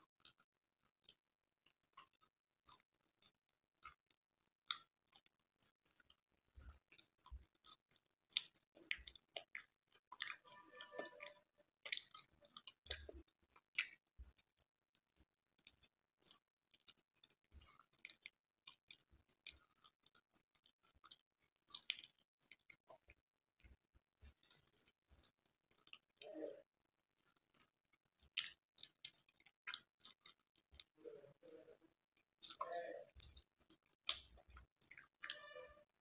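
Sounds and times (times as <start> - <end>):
person chewing: 0.2 - 15.0, 15.6 - 23.7, 24.3 - 26.6, 27.2 - 31.8, 32.4 - 35.8.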